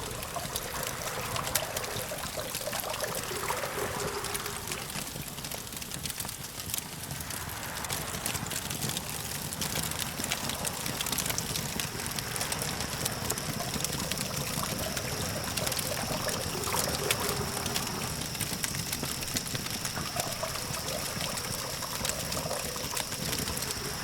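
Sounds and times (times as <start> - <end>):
campfire crackling: 0.0 - 24.0
distant traffic rumble: 0.0 - 24.0.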